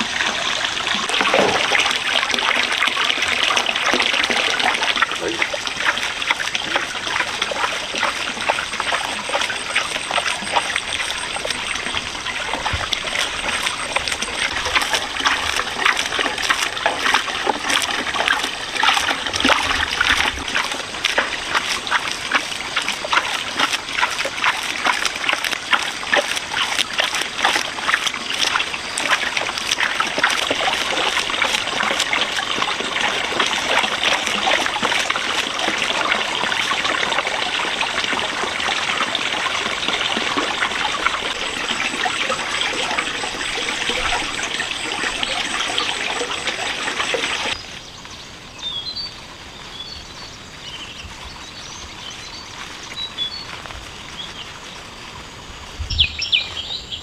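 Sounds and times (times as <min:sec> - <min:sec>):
water trickling and splashing: 0:00.0 - 0:48.1.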